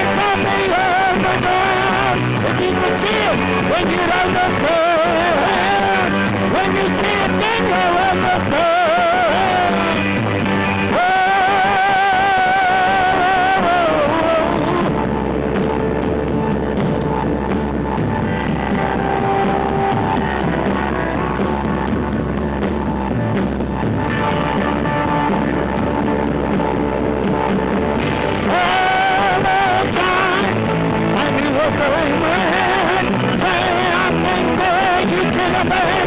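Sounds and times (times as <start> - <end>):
instrumental rock band music: 0.0 - 36.0.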